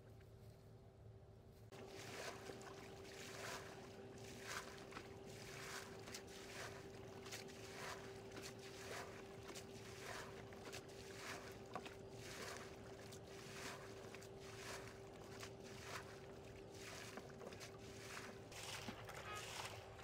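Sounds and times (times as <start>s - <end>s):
water scooped and splashing: 1.7s - 20.0s.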